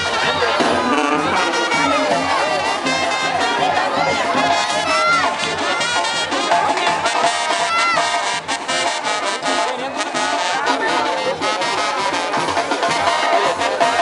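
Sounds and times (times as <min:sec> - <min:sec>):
brass band music: 0:00.0 - 0:14.0.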